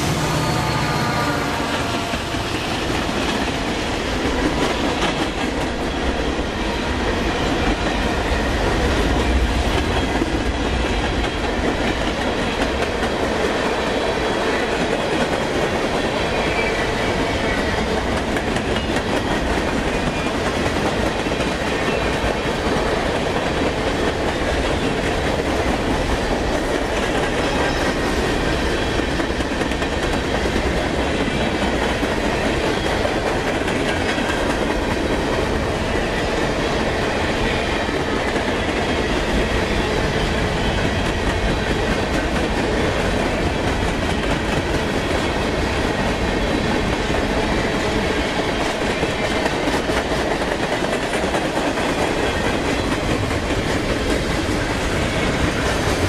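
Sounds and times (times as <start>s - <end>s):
steel wheels rumbling on rail: 0.0s - 56.0s
clickety-clack over rail joints: 1.6s - 56.0s.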